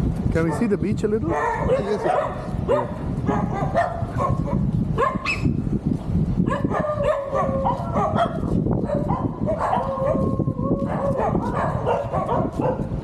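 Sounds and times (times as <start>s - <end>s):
dogs barking: 0.4s - 5.5s, 6.4s - 13.0s.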